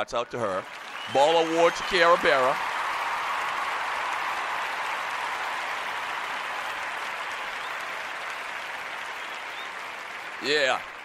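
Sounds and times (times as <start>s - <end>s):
applause: 0.3s - 11.0s.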